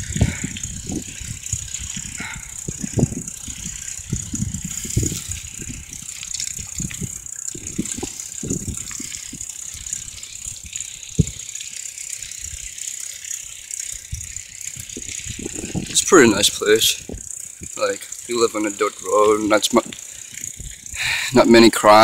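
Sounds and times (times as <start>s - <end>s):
bicycle rattling and clunking: 0.0s - 22.0s
steady high hiss: 2.6s - 22.0s.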